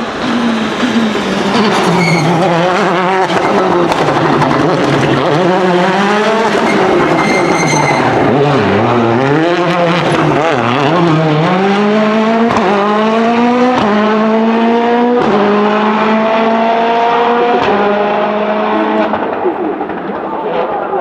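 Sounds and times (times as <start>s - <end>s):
rally car engine accelerating: 0.0s - 20.8s.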